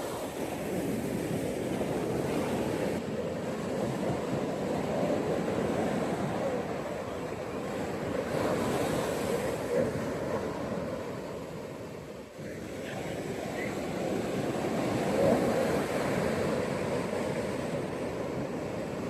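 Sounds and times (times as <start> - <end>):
ocean waves washing onto beach: 0.0 - 19.0.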